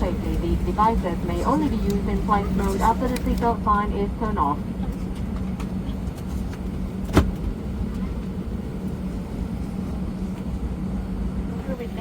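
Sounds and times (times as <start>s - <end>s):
aircraft cabin rumble and hum: 0.0s - 12.0s.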